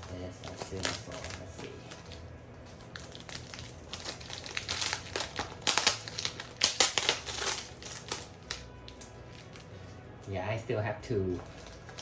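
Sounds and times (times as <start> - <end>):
packaging crinkling: 0.0 - 9.7, 11.4 - 12.0.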